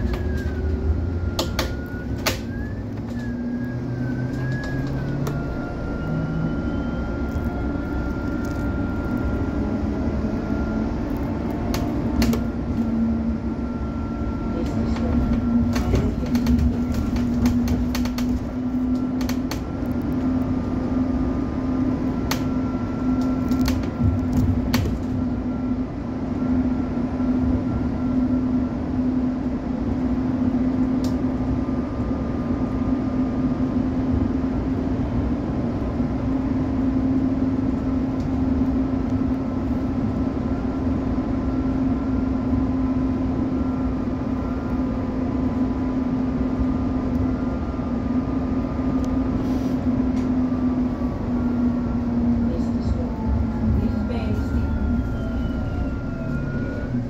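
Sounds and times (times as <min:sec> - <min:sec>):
faint whine: 0:00.0 - 0:33.8, 0:37.0 - 0:57.0
bus engine hum: 0:00.0 - 0:57.0.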